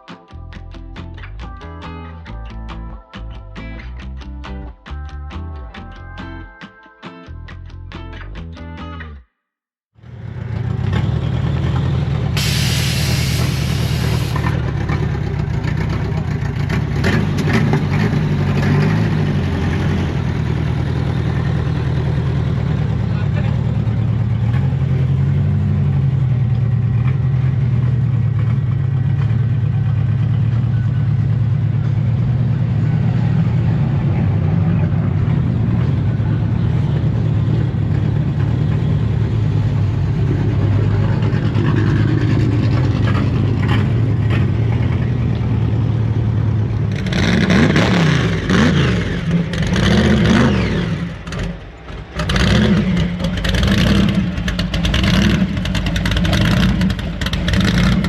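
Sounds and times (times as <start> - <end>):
truck engine idling and revving: 9.9 - 58.0.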